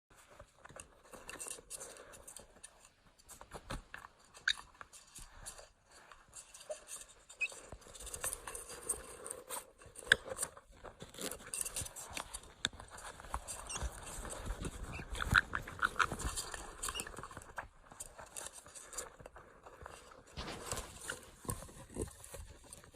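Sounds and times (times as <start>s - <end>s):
parrot scratching in a tube: 0.3s - 22.9s.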